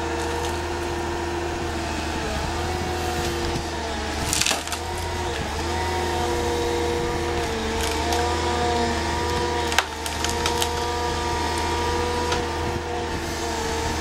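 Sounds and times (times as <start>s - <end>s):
excavator engine and hydraulics: 0.0s - 14.0s
wood splintering crack: 0.0s - 14.0s.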